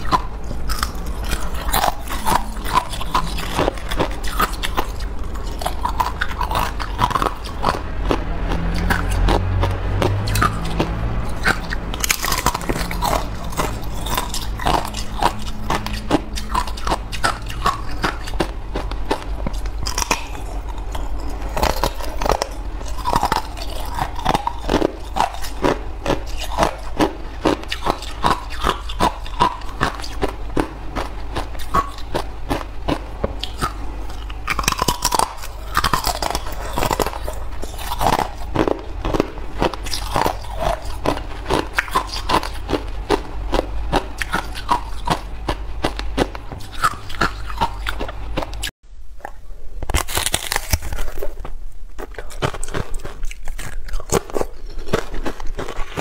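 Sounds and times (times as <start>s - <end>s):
thin ice being chewed: 0.0s - 48.7s, 49.9s - 56.0s.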